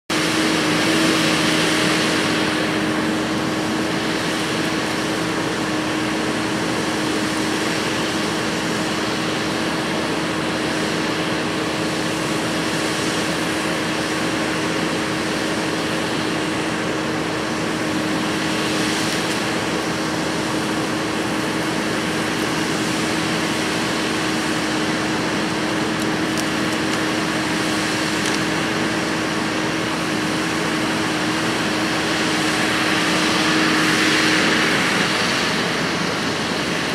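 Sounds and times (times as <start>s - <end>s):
track loader engine drone: 0.0s - 36.9s.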